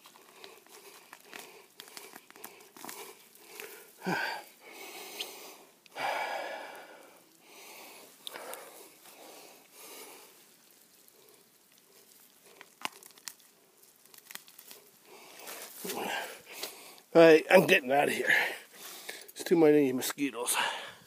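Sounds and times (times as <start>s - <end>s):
wet moss rustling and tearing: 0.0s - 17.9s.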